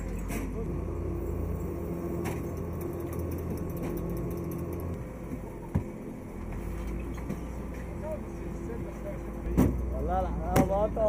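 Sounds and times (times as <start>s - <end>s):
machine humming: 0.7s - 11.0s.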